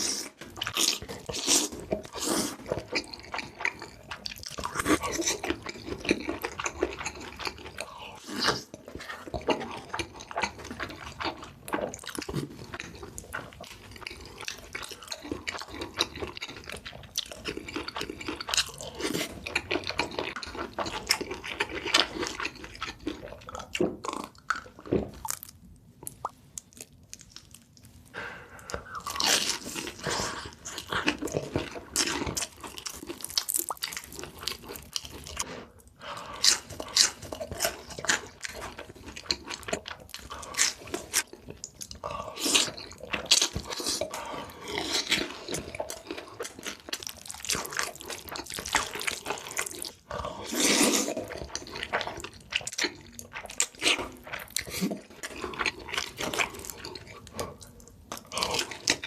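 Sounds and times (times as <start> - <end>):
chewing and biting: 0.0 - 28.0, 28.6 - 35.5, 36.2 - 59.0.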